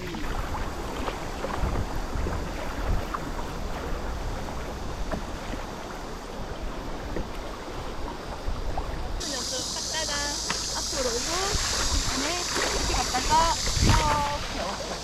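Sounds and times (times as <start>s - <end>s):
wind rumbling on microphone: 0.0s - 9.8s, 10.4s - 15.0s
river water around kayak: 0.0s - 15.0s.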